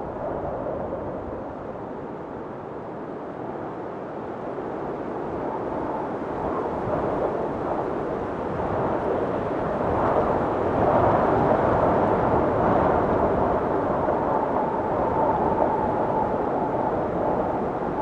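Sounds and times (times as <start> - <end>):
blizzard wind gusting: 0.0 - 18.0.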